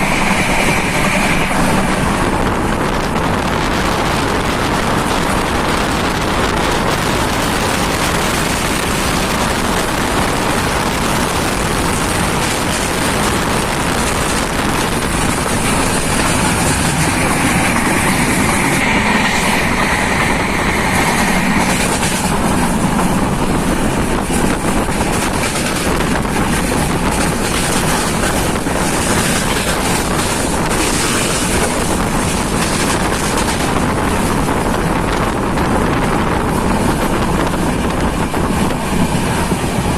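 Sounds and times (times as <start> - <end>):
train wheels rumbling on track: 0.0 - 39.9
wind rushing past microphone: 0.0 - 39.9.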